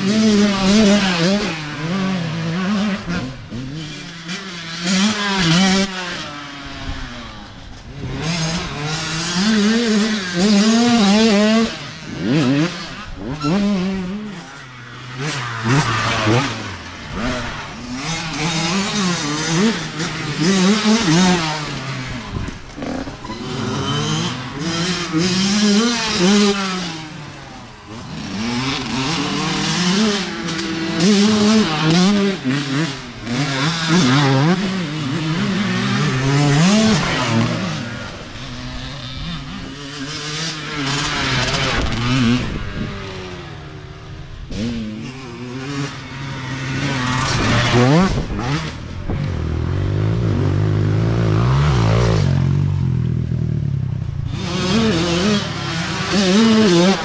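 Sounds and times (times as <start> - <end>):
dirt bikes revving past: 0.0 - 57.0.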